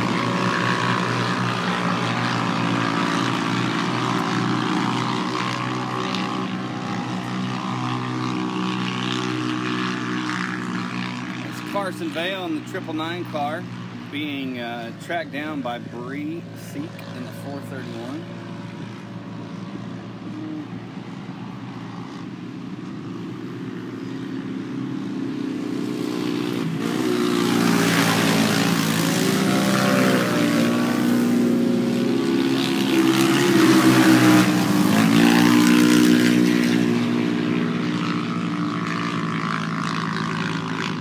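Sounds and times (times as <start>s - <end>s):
race engines revving: 0.0s - 41.0s
steady hum: 0.0s - 41.0s.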